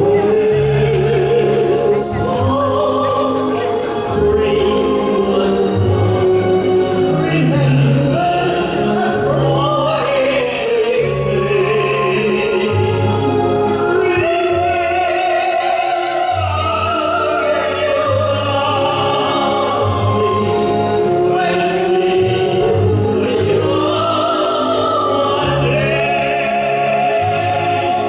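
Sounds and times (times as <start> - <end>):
musical accompaniment with bass: 0.0 - 28.0
operatic singing: 0.0 - 28.0.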